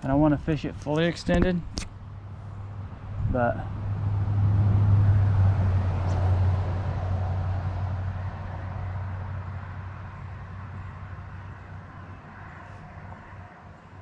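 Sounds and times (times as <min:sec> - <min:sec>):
vehicle passing by: 0:02.1 - 0:14.0.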